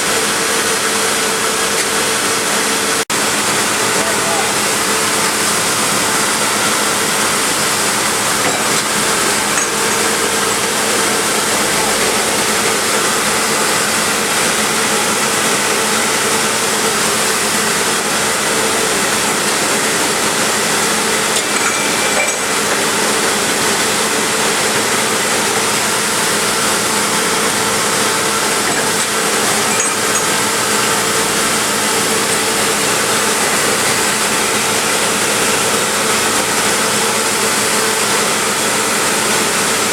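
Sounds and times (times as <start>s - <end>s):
grinder machine running: 0.0s - 39.9s.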